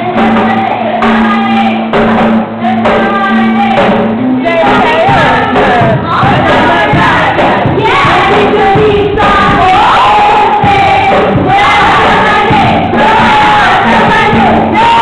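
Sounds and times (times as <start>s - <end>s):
crowd of voices: 0.0s - 15.0s
girls singing loudly together: 0.0s - 15.0s.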